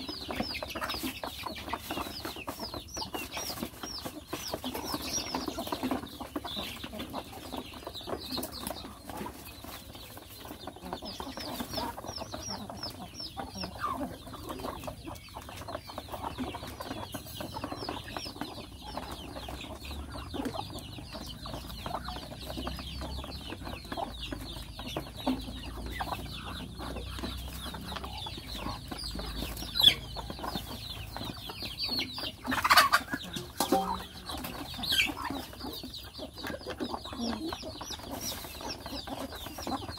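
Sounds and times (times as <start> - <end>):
beaks pecking at feed: 0.0 - 39.9
chickens clucking: 0.0 - 39.9
chicks peeping: 0.0 - 39.9.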